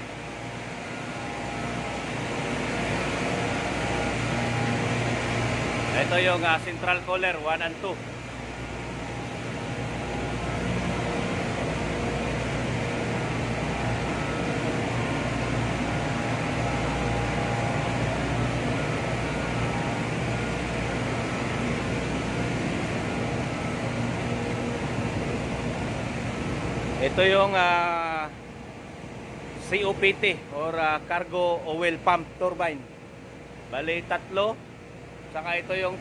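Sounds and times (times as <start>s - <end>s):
engine room machinery humming: 0.0s - 36.0s.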